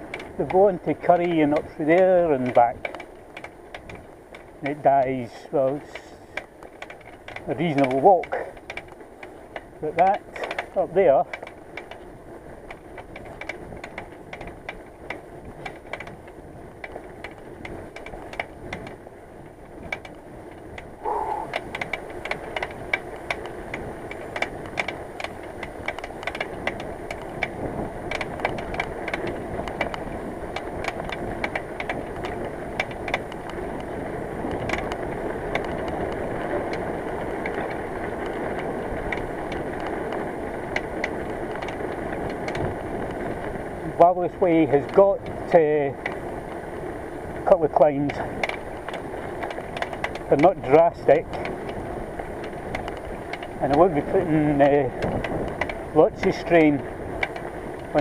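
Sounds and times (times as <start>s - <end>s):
bicycle clicking and rattling: 0.0s - 58.0s
wind and road noise: 0.0s - 58.0s.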